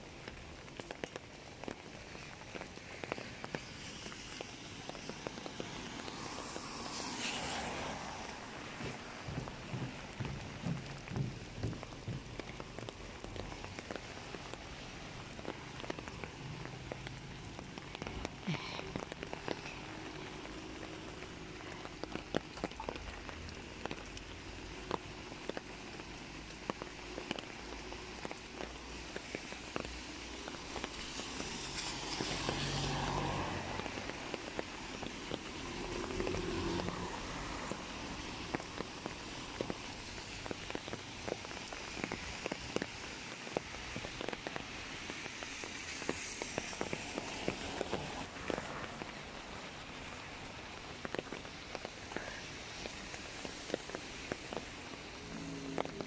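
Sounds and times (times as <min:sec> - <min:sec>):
rain drops ticking on umbrella: 0:00.0 - 0:56.0
steady hiss of rain: 0:00.0 - 0:56.0.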